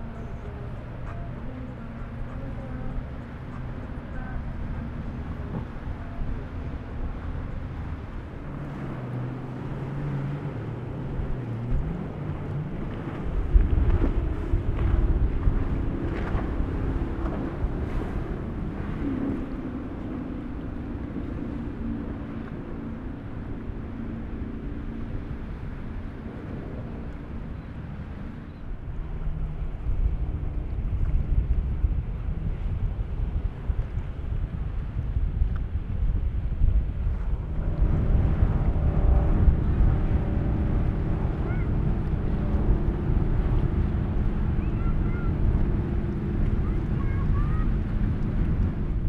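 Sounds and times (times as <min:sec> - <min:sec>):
boat engines droning: 0:00.0 - 0:49.0
hull through choppy water: 0:00.0 - 0:49.0
outboard motor hum: 0:00.0 - 0:49.0
sea wash: 0:00.0 - 0:49.0
wind buffeting microphone: 0:00.0 - 0:49.0.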